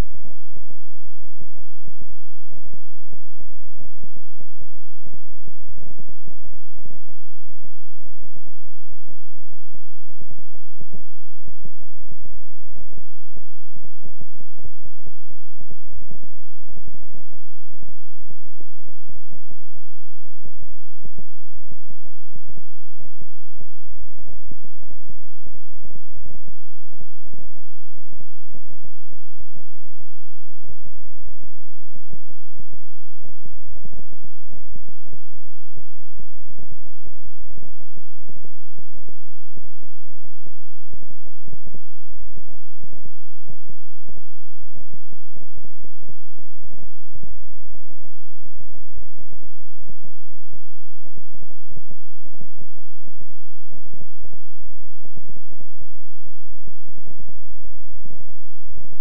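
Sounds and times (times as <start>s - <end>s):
synthesized pulsing low hum: 0.0s - 59.0s.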